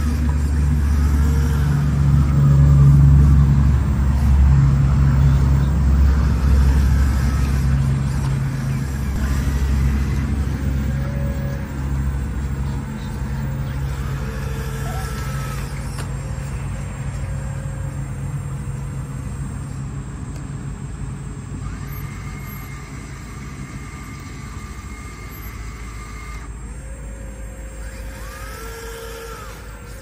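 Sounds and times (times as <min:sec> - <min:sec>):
high motor whine: 0:00.0 - 0:30.0
low engine-like hum: 0:00.0 - 0:30.0.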